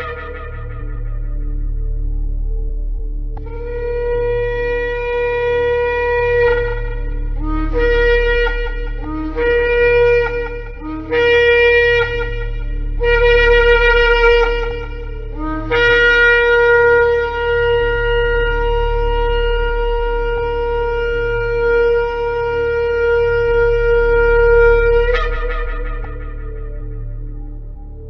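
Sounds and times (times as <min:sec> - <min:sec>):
shofar blowing: 0:00.0 - 0:02.5, 0:03.4 - 0:28.0
low hum: 0:00.0 - 0:28.0.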